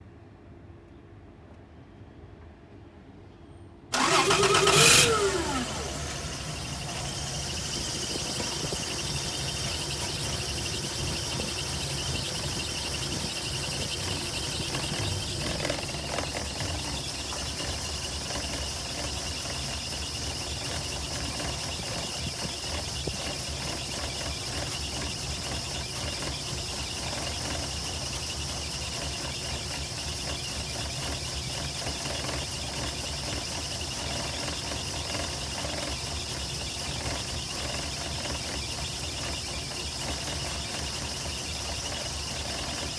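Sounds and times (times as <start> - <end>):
engine rough misfiring idle: 3.9 - 42.9.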